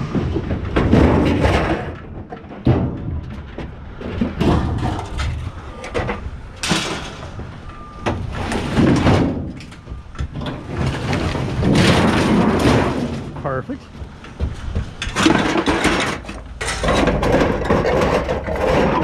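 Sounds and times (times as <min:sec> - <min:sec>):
scrap metal knocking and scraping: 0:00.0 - 0:19.0.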